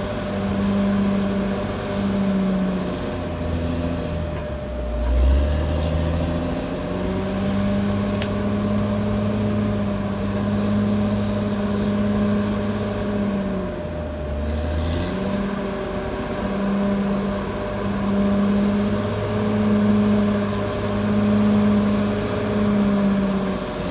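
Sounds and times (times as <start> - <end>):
bulldozer diesel engine running: 0.0 - 23.9.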